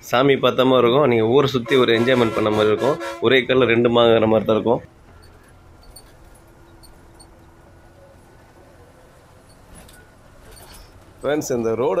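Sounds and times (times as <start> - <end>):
bus engine low rumble: 0.0 - 12.0.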